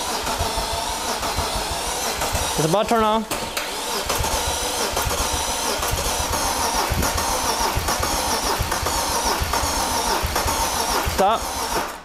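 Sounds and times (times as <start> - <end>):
starter motor cranking engine: 0.0 - 12.0.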